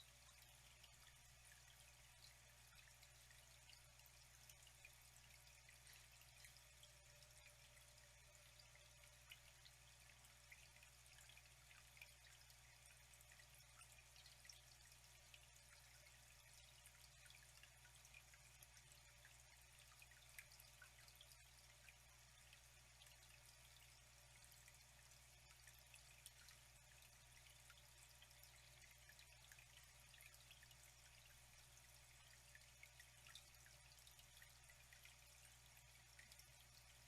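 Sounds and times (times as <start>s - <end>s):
faint trickling water: 0.0s - 37.0s
water drips and splashes: 0.0s - 37.0s.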